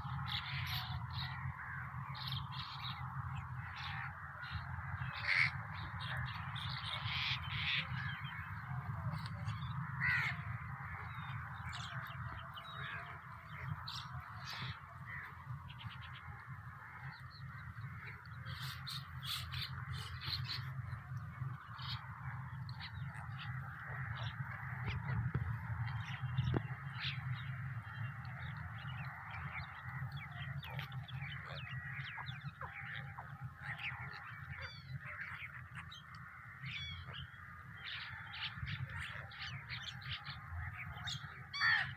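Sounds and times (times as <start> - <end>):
birds calling: 0.0 - 41.9
crows cawing: 0.0 - 41.9
steady low hum: 0.0 - 41.9.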